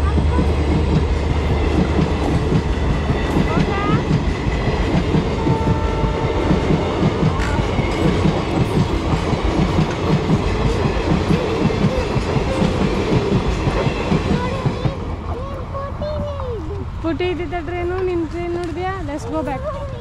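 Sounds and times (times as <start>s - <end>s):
train rumble: 0.0s - 20.0s
train wheels clattering over joints: 0.0s - 20.0s.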